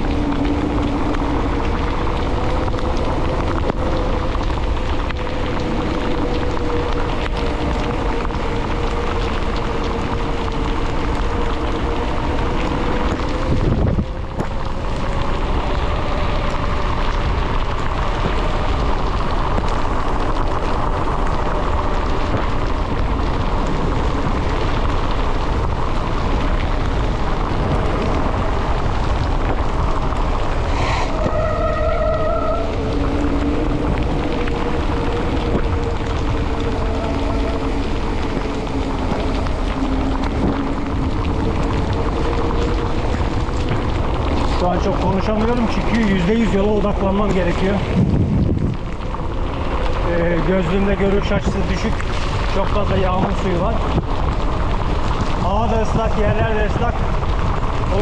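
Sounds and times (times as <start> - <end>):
bike tyres humming on asphalt: 0.0 - 58.0
tyres hissing on wet road: 0.0 - 58.0
wind on microphone: 0.0 - 58.0.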